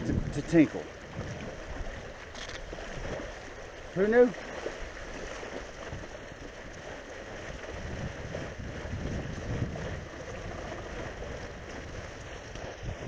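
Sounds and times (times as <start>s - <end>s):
wind buffeting microphone: 0.0s - 3.6s, 4.5s - 13.0s
water lapping at rocks: 0.0s - 13.0s.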